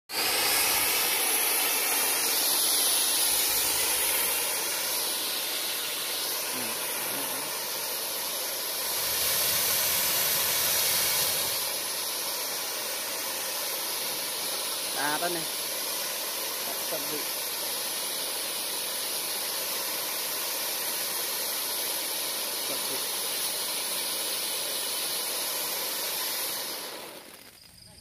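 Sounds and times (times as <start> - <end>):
firework fountain hissing: 0.0 - 28.0.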